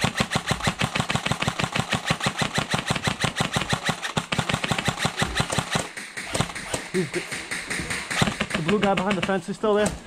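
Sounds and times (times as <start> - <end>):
airsoft rifle firing on full auto: 0.0 - 9.4.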